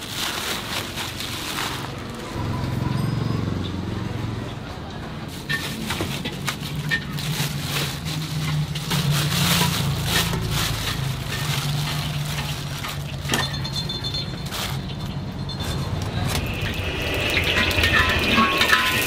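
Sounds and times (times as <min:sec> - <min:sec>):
plastic bags crinkling: 0:00.0 - 0:02.4, 0:05.3 - 0:19.0.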